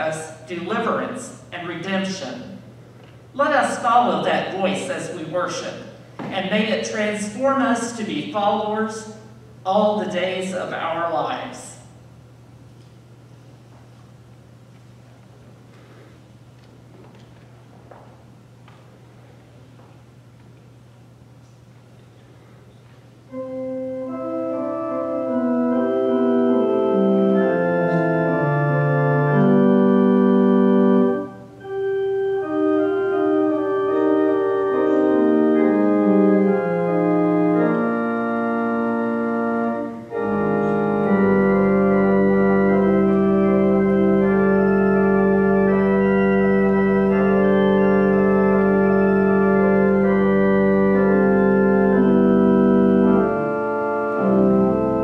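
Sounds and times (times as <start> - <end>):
pipe organ playing hymn chords: 0.0 - 12.4, 23.1 - 55.0.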